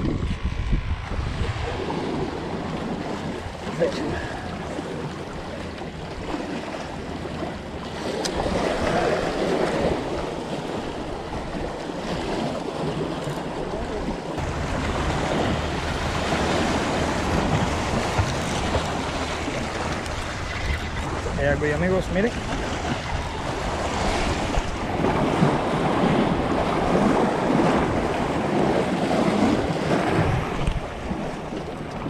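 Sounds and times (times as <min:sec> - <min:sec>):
wind buffeting microphone: 0:00.0 - 0:32.0
waves splashing against rocks: 0:01.4 - 0:32.0.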